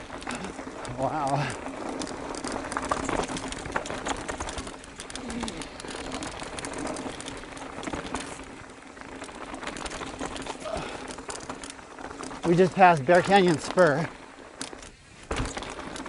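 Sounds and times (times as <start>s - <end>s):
bike frame and chain rattling: 0.0s - 16.0s
tyres running on dirt: 0.0s - 16.0s.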